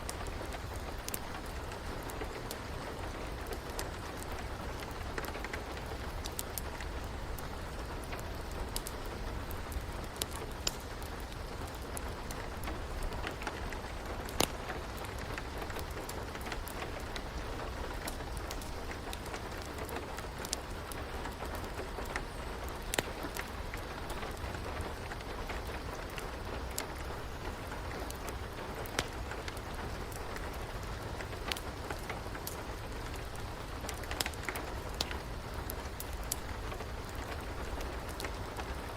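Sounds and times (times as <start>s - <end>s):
steady rain: 0.0s - 38.9s
wood fire crackling: 0.0s - 38.9s.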